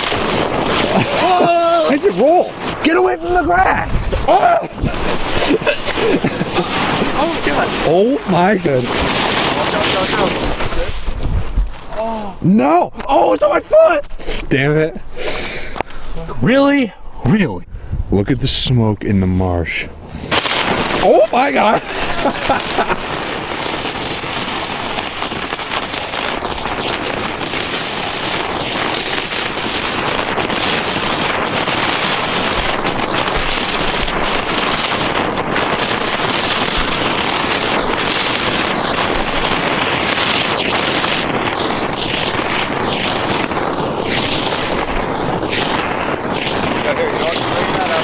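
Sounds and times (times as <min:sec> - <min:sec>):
firework hissing and crackling: 0:00.0 - 0:16.8, 0:19.8 - 0:48.0.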